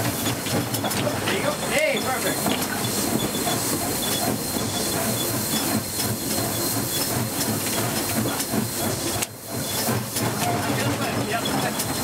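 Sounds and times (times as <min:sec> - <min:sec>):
locomotive engine running: 0:00.0 - 0:12.0
steam hissing: 0:00.0 - 0:12.0.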